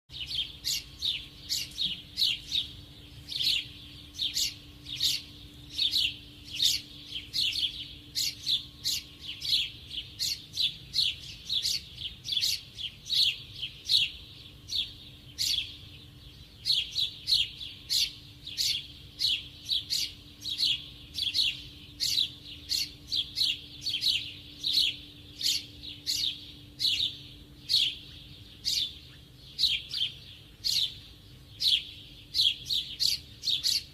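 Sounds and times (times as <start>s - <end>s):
faint steady hum: 0.1s - 33.9s
small bird chirping: 0.1s - 33.9s.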